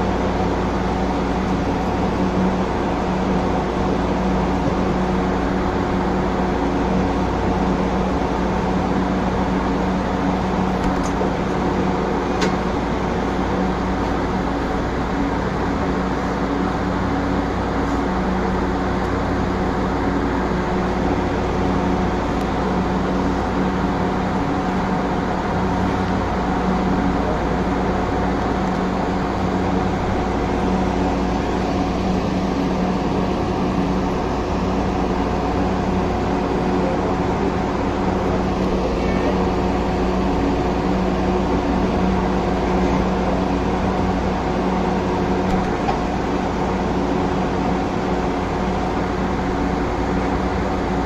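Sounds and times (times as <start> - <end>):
electrical hum of rail car: 0.0 - 51.0
train running noise: 0.0 - 51.0.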